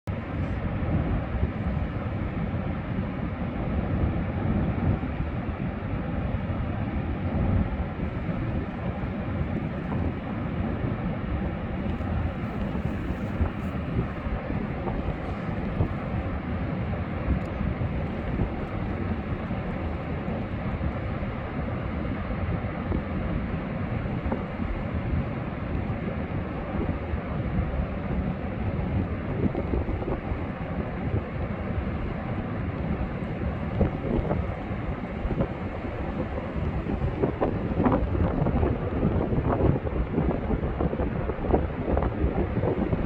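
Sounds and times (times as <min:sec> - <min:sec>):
wind: 0:00.0 - 0:43.0
ocean surf: 0:00.1 - 0:43.0.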